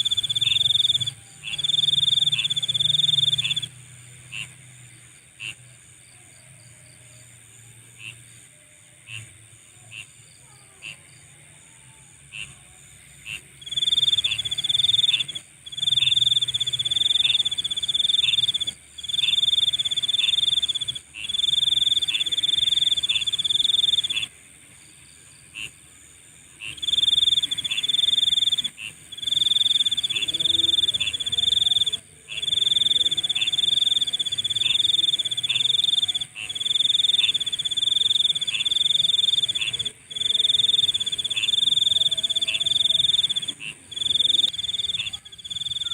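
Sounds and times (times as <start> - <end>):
insect high trill: 0.0 - 4.6, 10.0 - 25.8, 26.6 - 45.9
insect chorus: 0.0 - 45.9.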